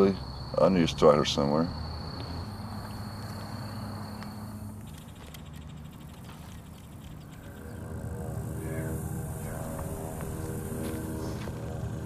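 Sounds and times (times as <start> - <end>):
insect trill: 0.0 - 12.0
low steady hum: 0.0 - 12.0.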